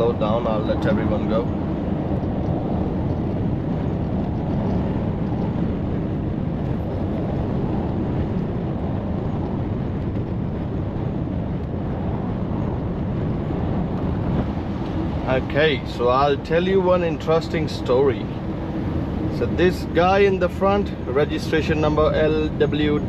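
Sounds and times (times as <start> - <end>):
truck engine and road noise: 0.0 - 23.0.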